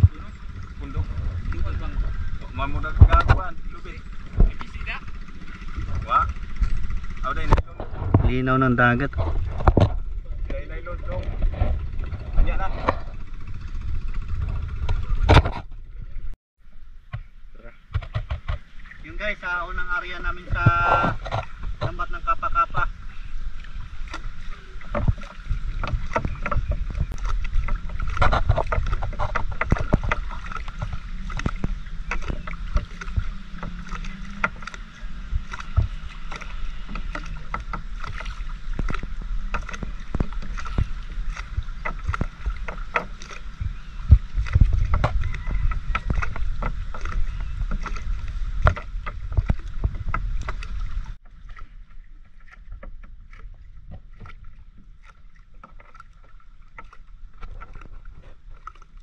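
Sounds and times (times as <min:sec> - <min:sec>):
low rumble: 0:00.0 - 0:55.1.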